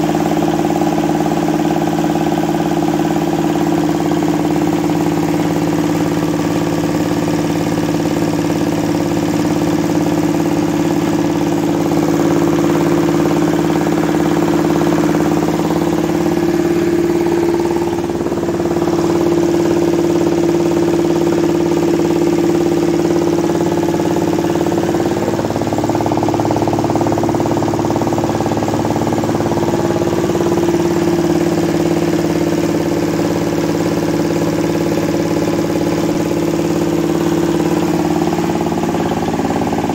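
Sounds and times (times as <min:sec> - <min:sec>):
diesel engine driving rice mill: 0:00.0 - 0:39.9.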